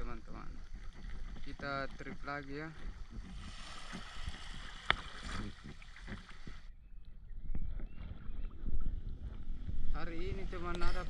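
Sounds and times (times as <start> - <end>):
wind and water noise: 0.0 - 11.0.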